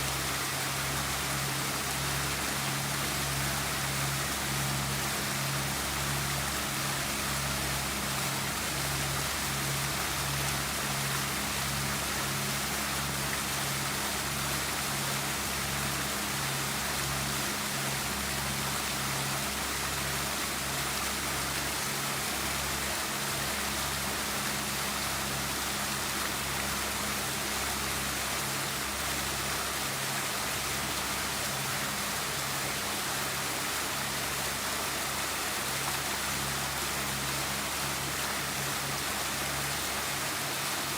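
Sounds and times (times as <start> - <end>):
garden fountain splashing: 0.0 - 40.9.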